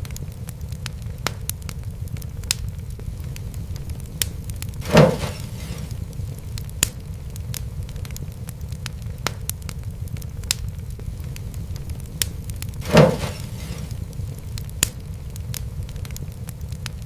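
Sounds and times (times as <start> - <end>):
fire pop with hiss: 0.0 - 17.0
wood fire crackling: 0.0 - 17.0.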